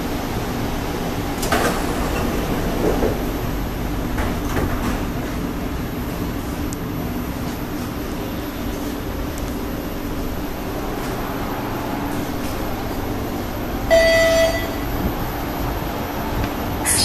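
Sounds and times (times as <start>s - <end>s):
sliding train doors closing: 0.0s - 16.8s
train car hum: 0.0s - 17.0s.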